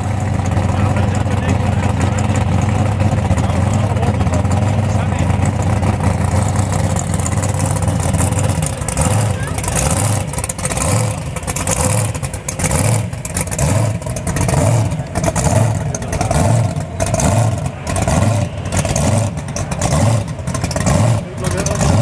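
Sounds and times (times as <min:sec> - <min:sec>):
drag car engine idling: 0:00.0 - 0:22.0.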